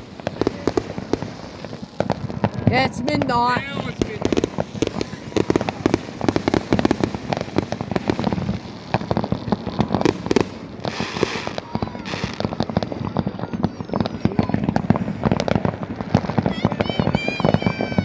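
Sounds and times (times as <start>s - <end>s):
fireworks bangs and pops: 0.0s - 18.0s
hissing crackling firework bursts: 0.0s - 18.0s.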